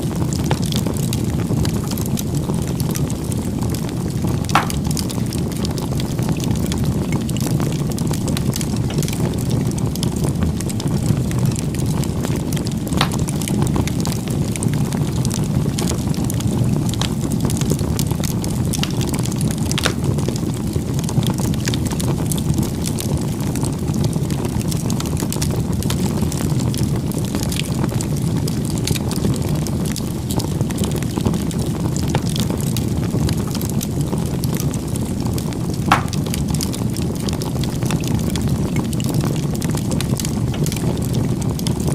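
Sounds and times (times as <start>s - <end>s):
burning wood crackling: 0.0s - 41.9s
rush of flames: 0.0s - 41.9s.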